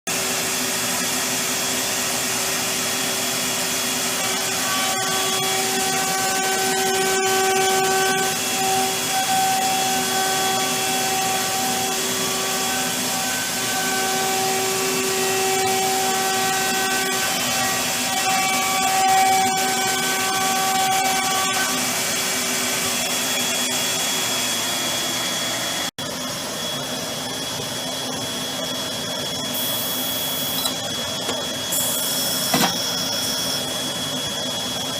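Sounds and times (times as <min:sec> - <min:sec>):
cnc router machine noise: 0:00.1 - 0:34.9
whining tones: 0:02.9 - 0:34.9.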